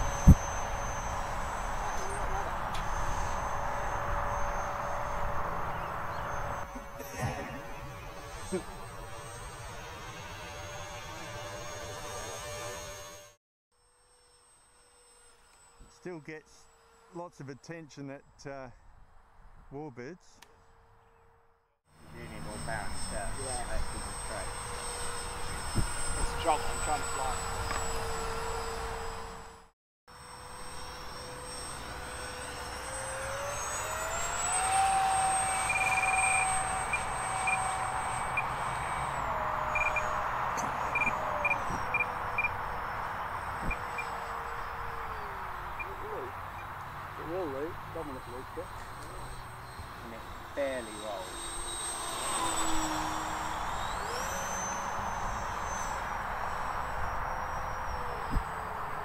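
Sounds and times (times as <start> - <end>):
electric ducted fans whining: 0.0 - 13.3, 22.0 - 59.0.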